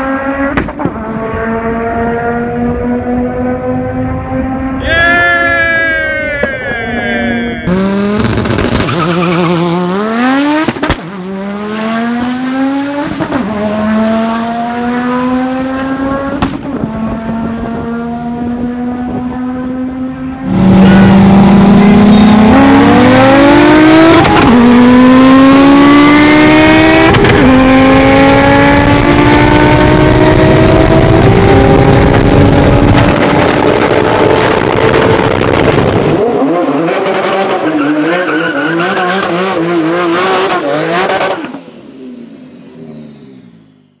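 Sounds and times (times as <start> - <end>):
car engine at full throttle: 0.0 - 4.9, 6.2 - 44.0.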